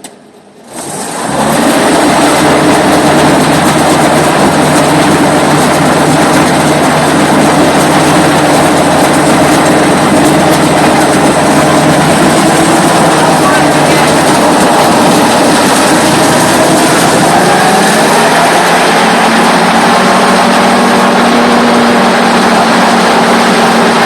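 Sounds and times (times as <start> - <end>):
boat engine running loud: 0.7 - 24.0
rushing noise: 0.8 - 24.0.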